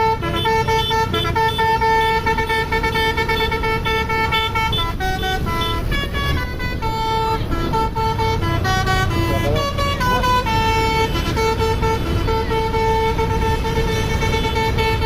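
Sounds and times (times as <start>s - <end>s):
bus multi-tone horn melody: 0.0s - 15.0s
low engine rumble: 0.0s - 15.0s.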